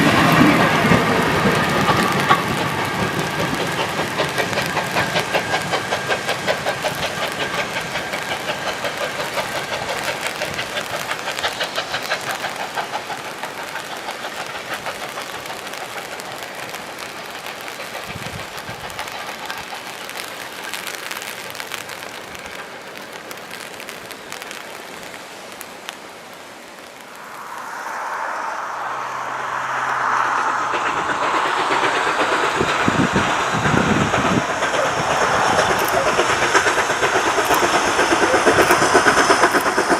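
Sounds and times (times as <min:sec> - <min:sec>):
train wheels clicking over rail joints: 0:00.0 - 0:26.2, 0:29.9 - 0:39.9
broad rushing noise: 0:00.0 - 0:39.9.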